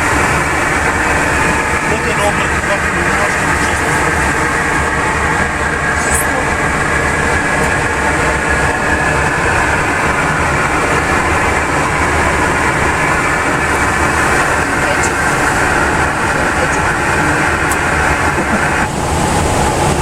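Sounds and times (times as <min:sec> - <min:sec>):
aircraft cockpit rushing noise: 0:00.0 - 0:20.0.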